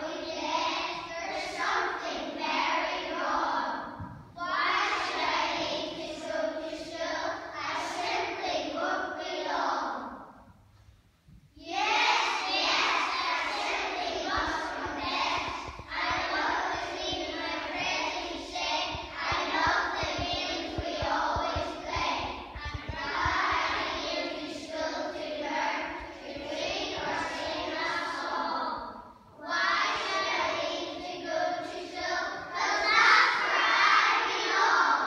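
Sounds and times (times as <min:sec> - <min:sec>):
children singing together: 0:00.0 - 0:10.5, 0:11.6 - 0:35.0.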